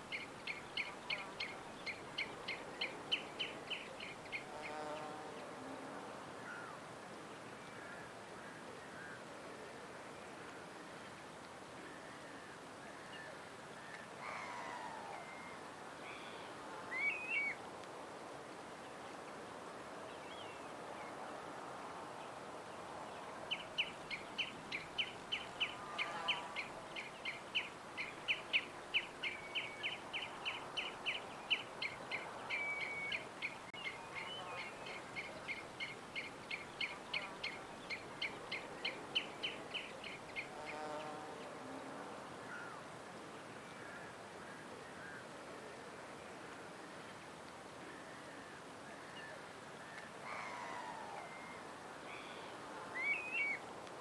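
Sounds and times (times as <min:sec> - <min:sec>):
faint outdoor background: 0:00.0 - 0:54.0.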